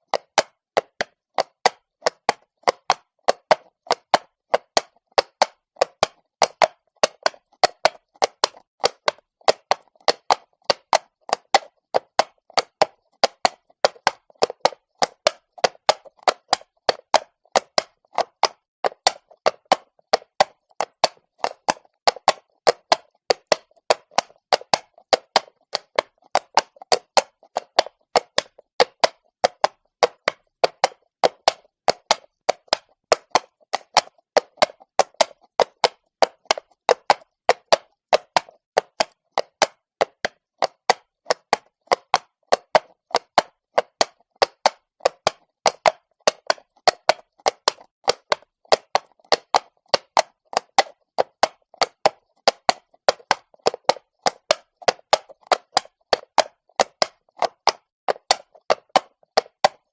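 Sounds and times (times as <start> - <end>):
horse hooves clopping on stone: 0.1 - 59.9.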